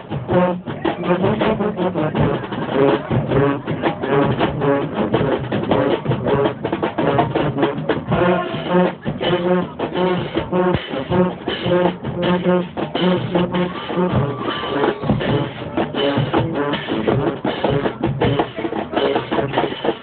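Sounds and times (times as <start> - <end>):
brass instruments playing: 0.0 - 20.0
marching drums: 0.0 - 20.0.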